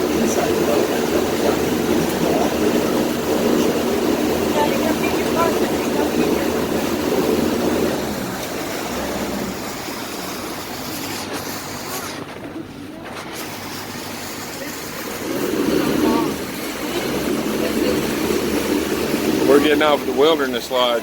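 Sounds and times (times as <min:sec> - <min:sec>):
boat engine running: 0:00.0 - 0:21.0
water noise: 0:00.0 - 0:21.0.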